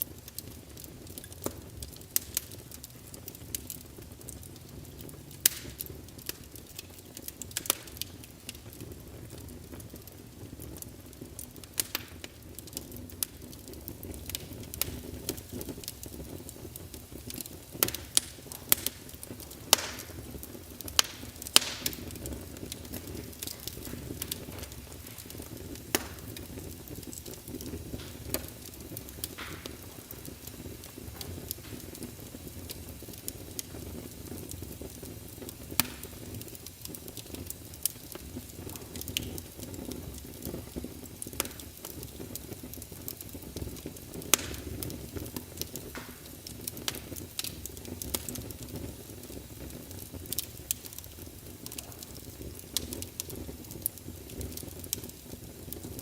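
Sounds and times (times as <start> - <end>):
fire popping and snapping: 0.0 - 56.0
low rumble of flames: 0.0 - 56.0.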